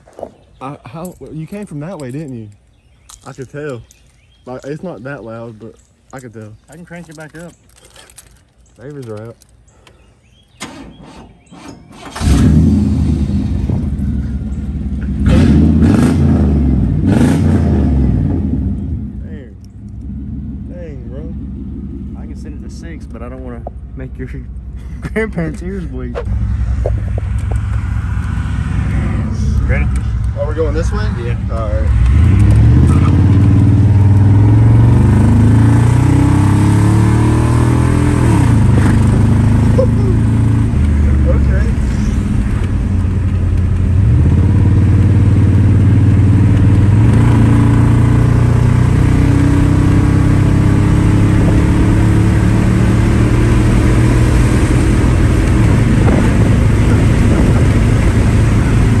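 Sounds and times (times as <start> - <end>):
pickup truck engine revving: 10.7 - 23.4, 24.0 - 59.0.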